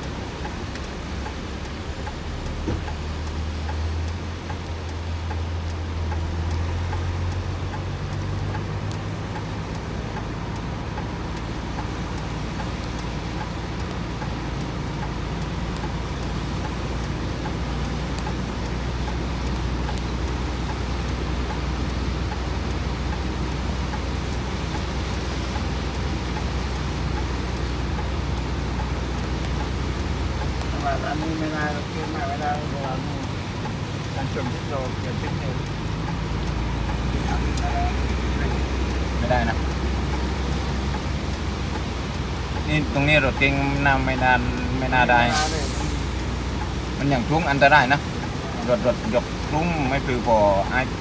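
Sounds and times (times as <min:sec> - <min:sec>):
road or water noise: 0:00.0 - 0:51.0
vehicle engine humming: 0:00.0 - 0:51.0.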